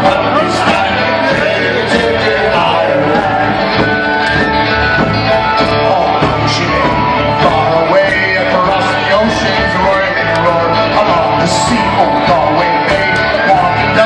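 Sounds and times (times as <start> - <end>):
folk band playing upbeat tune: 0.0 - 14.0
steady drumbeat: 0.0 - 14.0.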